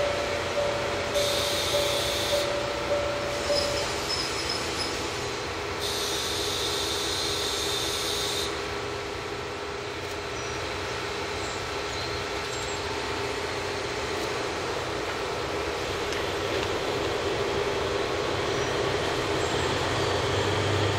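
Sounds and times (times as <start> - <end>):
diesel train droning: 0.0 - 20.9.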